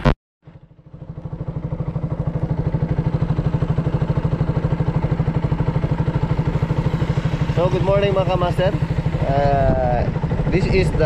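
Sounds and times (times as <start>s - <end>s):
motorcycle engine idling: 0.4s - 11.0s.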